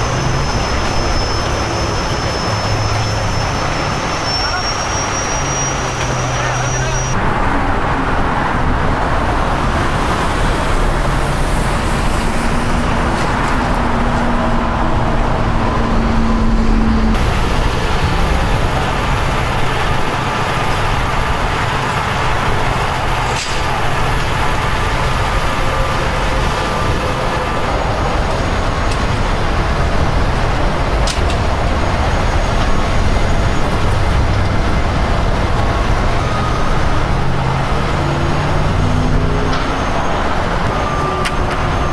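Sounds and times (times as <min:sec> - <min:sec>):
road traffic noise: 0:00.0 - 0:41.9
truck diesel engines running: 0:00.0 - 0:41.9.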